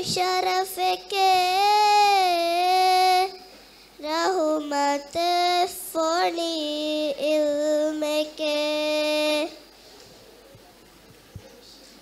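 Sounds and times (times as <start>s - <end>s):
girl singing unaccompanied: 0.0s - 9.6s.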